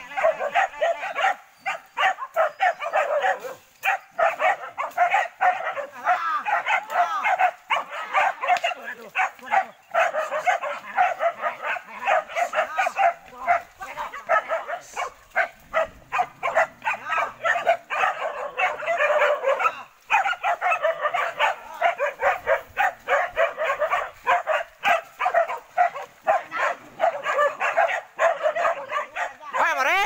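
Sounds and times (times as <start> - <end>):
dogs barking and yelping: 0.0 - 30.0.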